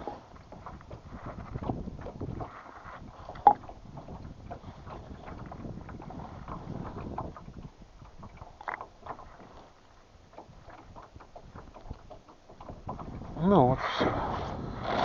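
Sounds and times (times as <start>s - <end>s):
gear knocking and clattering in boat: 0.0s - 14.8s.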